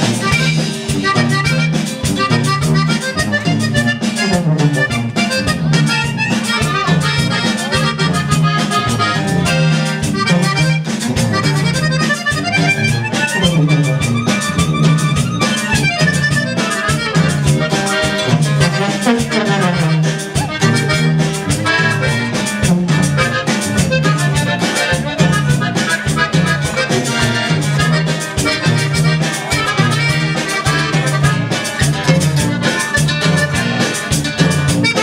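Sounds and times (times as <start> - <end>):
accordion: 0.0 - 35.0
band playing: 0.0 - 35.0
bass line: 0.0 - 35.0.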